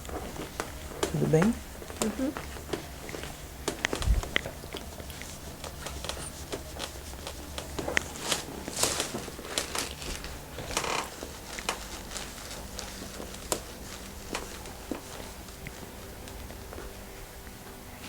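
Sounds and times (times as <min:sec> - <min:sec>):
hands rubbing over skin and fabric: 0:00.0 - 0:17.8.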